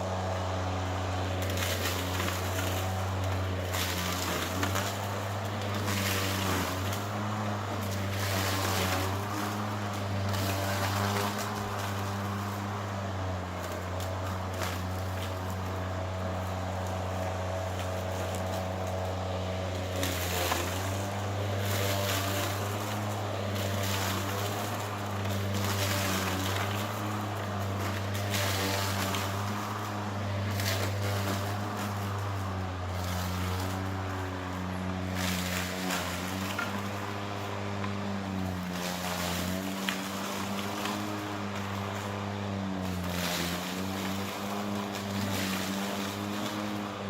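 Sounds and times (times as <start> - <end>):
lawnmower blade humming: 0.0 - 47.0
mower shredding weeds: 0.0 - 47.0.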